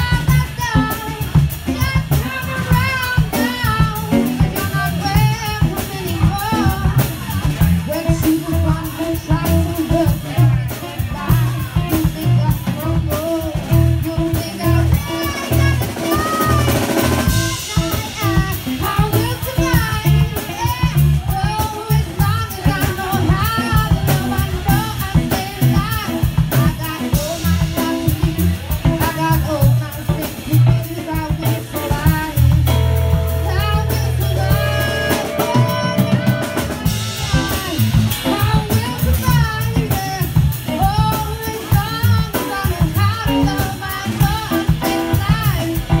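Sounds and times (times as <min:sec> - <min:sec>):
drum kit beat: 0:00.0 - 0:46.0
woman singing: 0:00.0 - 0:46.0.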